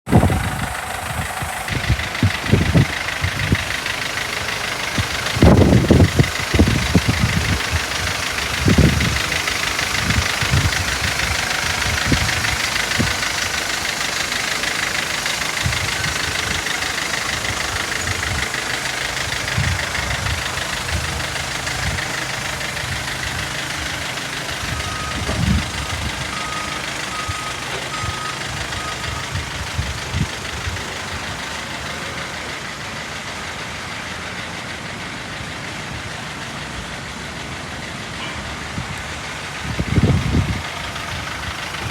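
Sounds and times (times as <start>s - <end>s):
diesel engine idling: 0.1s - 41.9s.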